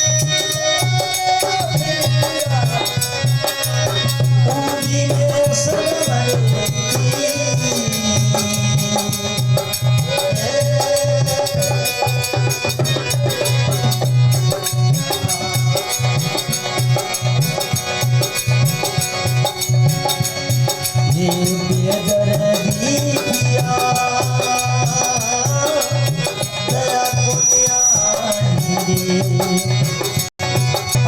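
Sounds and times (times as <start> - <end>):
sustained melody line: 0.0 - 31.0.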